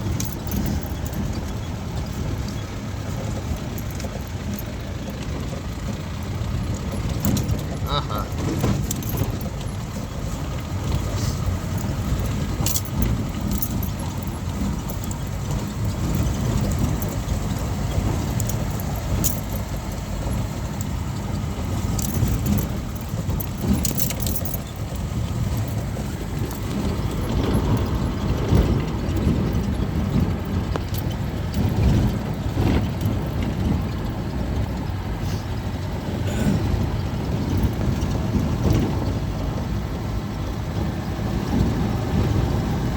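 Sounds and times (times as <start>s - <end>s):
vehicle engine and road rumble: 0.0s - 42.9s
vehicle rattles and knocks: 0.0s - 42.9s.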